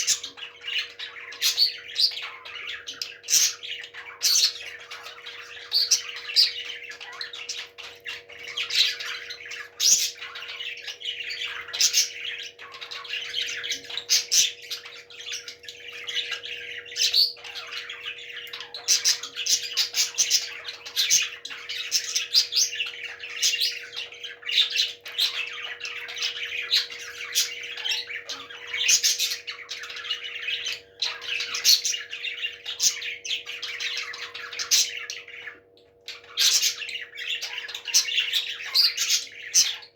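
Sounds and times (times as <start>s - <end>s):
parrots squawking and chirping: 0.0s - 39.9s.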